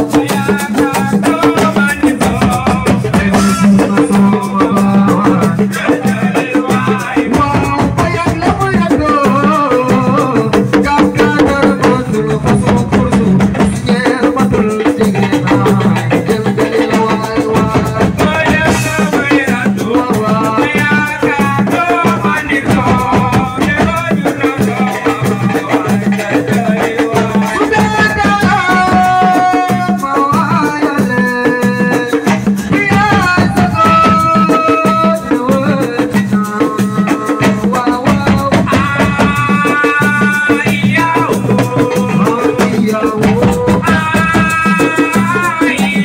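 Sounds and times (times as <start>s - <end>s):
fast dense drum rhythm: 0.0s - 46.0s.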